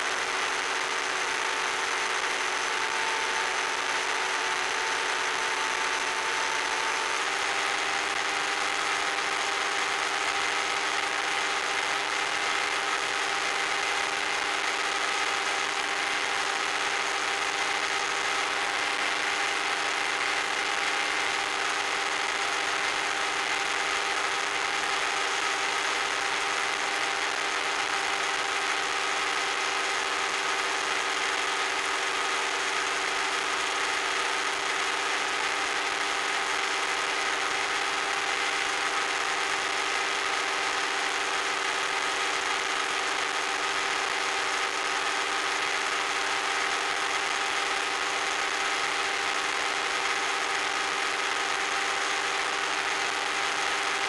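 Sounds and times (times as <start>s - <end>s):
model plane motor and propeller: 0.0s - 54.0s.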